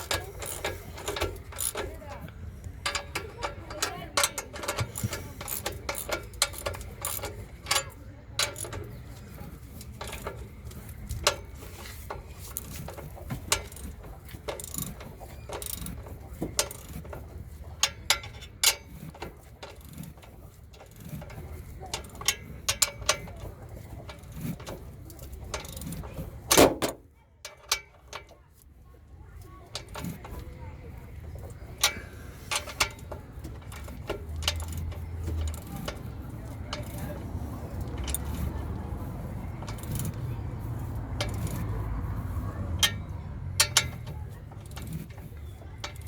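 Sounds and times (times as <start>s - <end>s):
ratchet wrench clicking: 0.0s - 28.6s, 29.7s - 46.0s.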